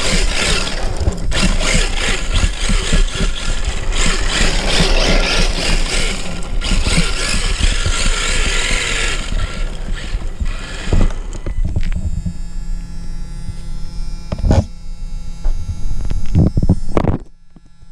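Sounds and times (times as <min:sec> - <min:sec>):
rc car motor whine and tyre noise: 0:00.0 - 0:17.9
steady electric buzz: 0:00.0 - 0:17.9.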